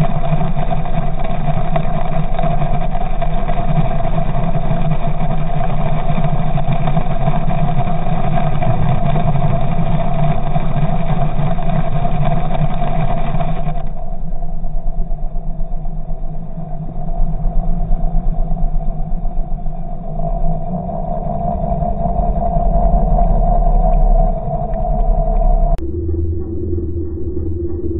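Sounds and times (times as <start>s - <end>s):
underwater outboard motor drone: 0.0s - 25.8s.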